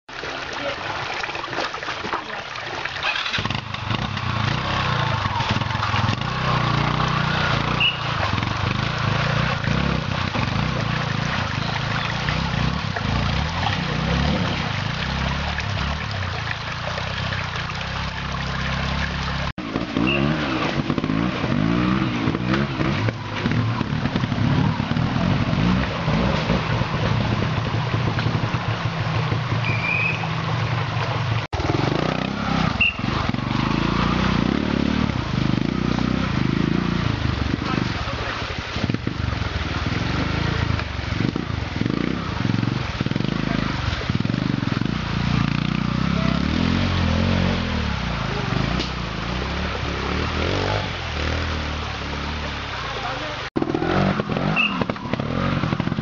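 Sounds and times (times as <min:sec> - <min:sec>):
motorcycle engine revving: 0:03.0 - 0:56.0.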